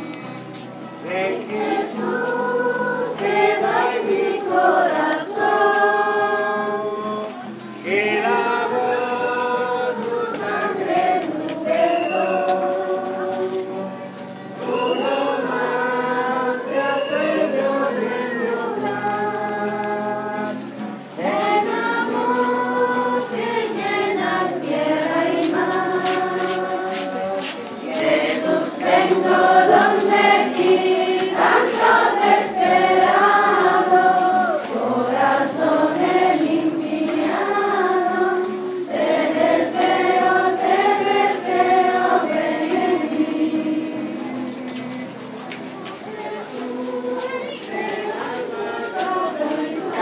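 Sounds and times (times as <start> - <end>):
group singing a hymn: 0.0 - 50.0.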